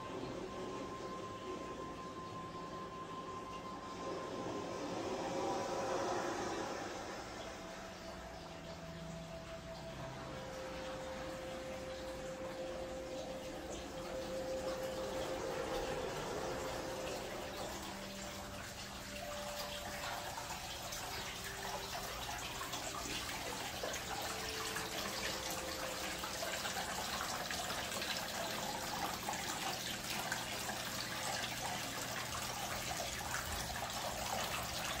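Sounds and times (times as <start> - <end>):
water trickling down rock fountain: 0.0 - 35.0.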